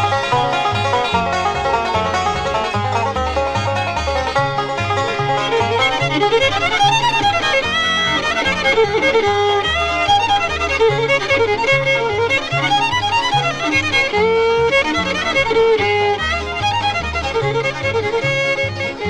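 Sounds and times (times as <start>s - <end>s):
bass line: 0.0s - 19.0s
fast fiddle melody: 0.0s - 19.0s.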